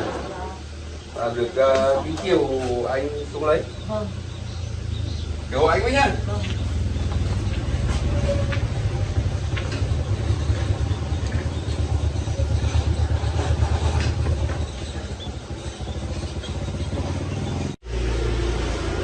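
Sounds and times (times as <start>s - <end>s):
motorbike engine humming: 0.0s - 19.0s
steady engine hum: 0.0s - 19.0s.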